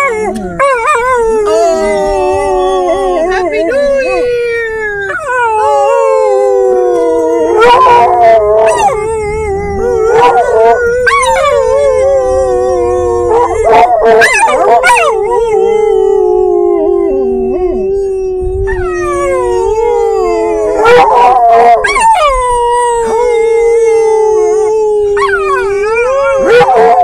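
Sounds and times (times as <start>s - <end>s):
dogs howling: 0.0s - 27.0s.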